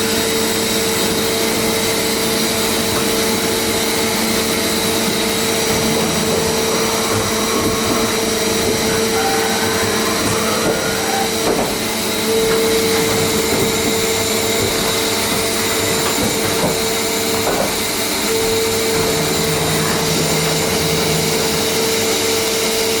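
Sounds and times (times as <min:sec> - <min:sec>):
machining centre whine: 0:00.0 - 0:23.0.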